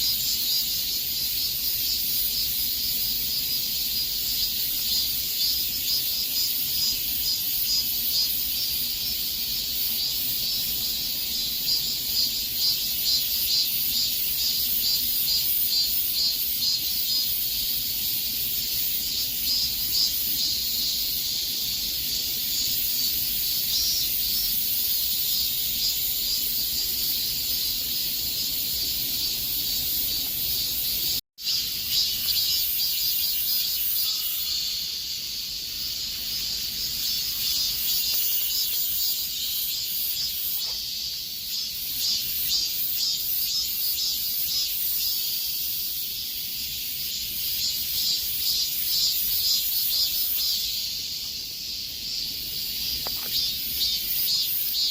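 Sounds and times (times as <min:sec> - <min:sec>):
cicadas buzzing: 0:00.0 - 0:54.9.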